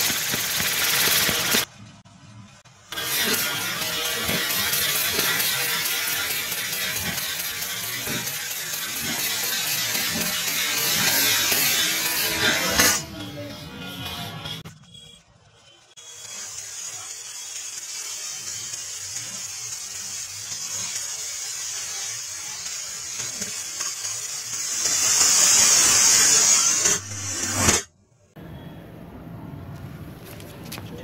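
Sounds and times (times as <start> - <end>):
hissing spraying sparks: 0.0 - 1.8, 2.7 - 15.2, 16.0 - 27.9.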